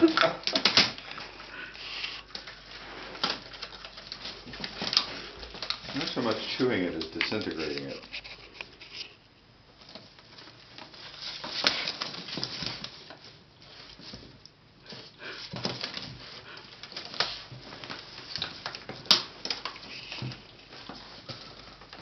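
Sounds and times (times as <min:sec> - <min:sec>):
puppy chewing wicker crackling: 0:00.0 - 0:22.0.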